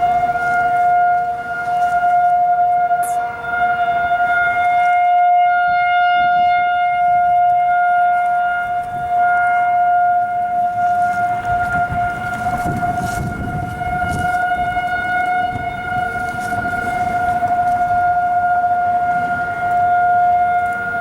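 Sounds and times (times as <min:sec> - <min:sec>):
distant sirens: 0:00.0 - 0:21.0
tornado siren steady tone: 0:00.0 - 0:21.0.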